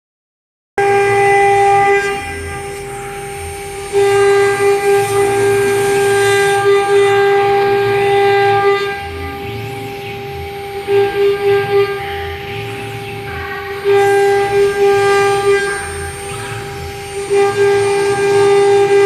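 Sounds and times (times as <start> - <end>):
router spindle whining: 0.8 - 19.0.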